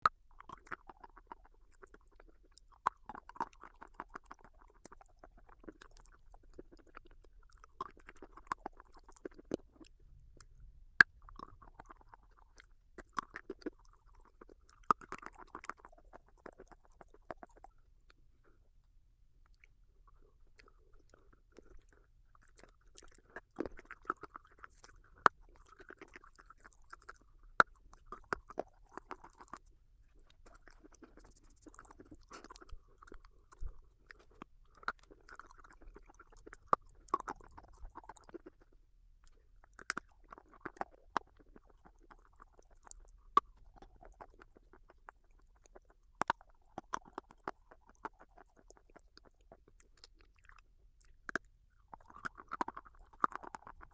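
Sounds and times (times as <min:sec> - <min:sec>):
crunchy chewing: 0:00.0 - 0:18.7, 0:19.4 - 0:53.9.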